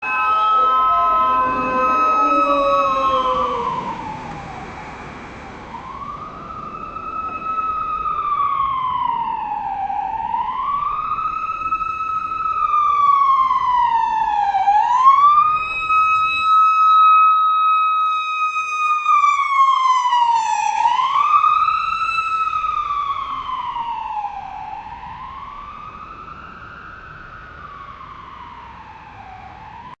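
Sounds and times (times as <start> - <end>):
ambulance siren wailing: 0.0 - 30.0.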